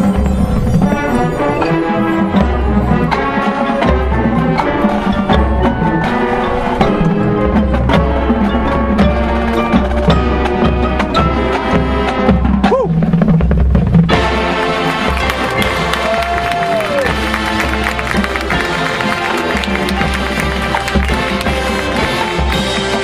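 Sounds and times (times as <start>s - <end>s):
brass chords: 0.0s - 12.7s, 14.1s - 23.0s
drums and percussion tapping: 2.3s - 23.0s.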